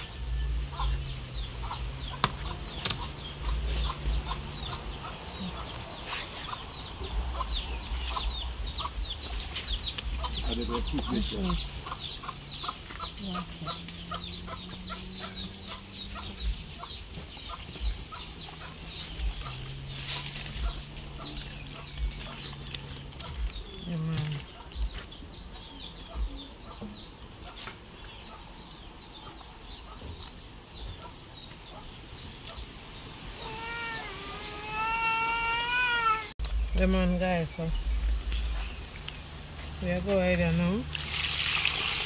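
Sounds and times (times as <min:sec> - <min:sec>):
chickens clucking: 0:00.0 - 0:40.8.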